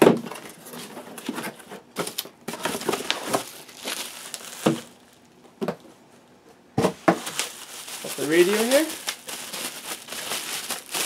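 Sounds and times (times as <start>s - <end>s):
packaging crinkling and rustling: 0.3s - 5.4s, 7.1s - 11.0s.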